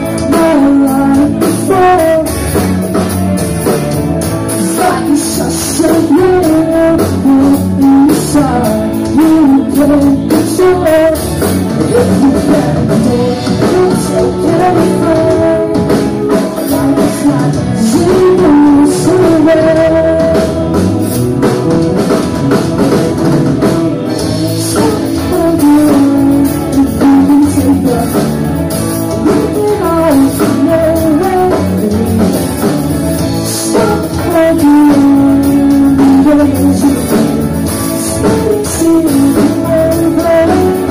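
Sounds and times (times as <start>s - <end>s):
drum kit: 0.0s - 40.9s
electric guitars: 0.0s - 40.9s
person singing: 0.0s - 40.9s.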